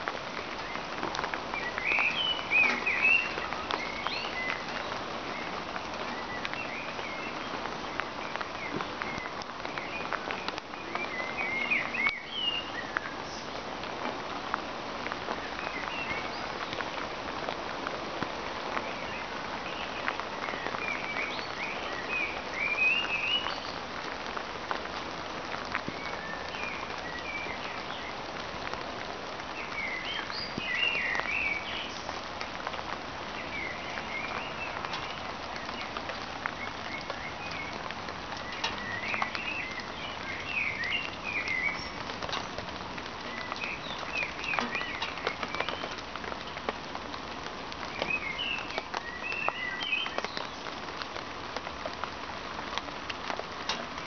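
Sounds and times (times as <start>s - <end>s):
light rain pattering on leaves: 0.0s - 54.0s
songbird singing: 0.0s - 54.0s.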